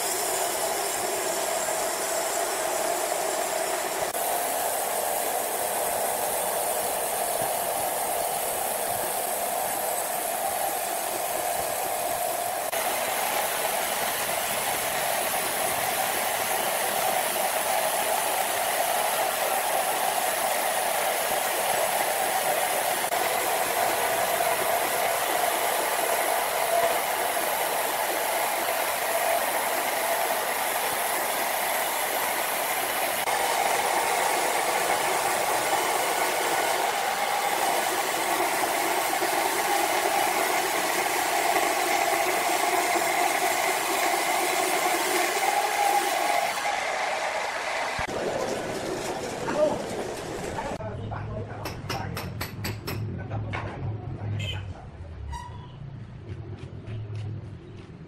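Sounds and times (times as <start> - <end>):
band saw cutting wood: 0.0 - 50.8
sawmill motor humming: 0.0 - 50.8.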